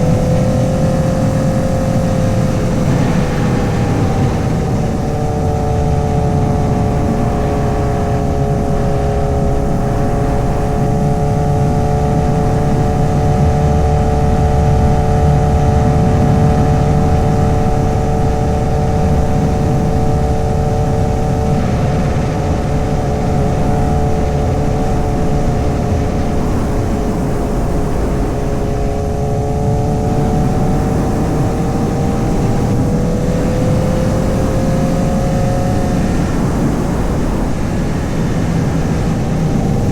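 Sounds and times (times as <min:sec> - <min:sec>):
motorcycle engine cruising: 0:00.0 - 0:39.9
wind and road noise rumble: 0:00.0 - 0:39.9.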